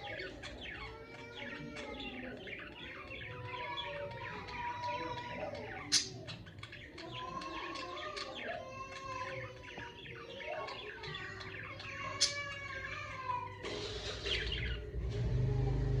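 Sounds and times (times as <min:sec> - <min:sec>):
budgerigars chattering and warbling: 0:00.0 - 0:15.0.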